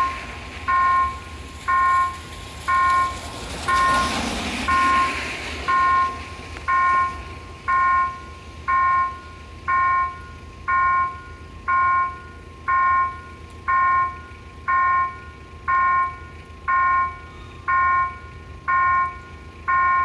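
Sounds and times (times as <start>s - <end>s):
level-crossing warning bell: 0.0s - 20.0s.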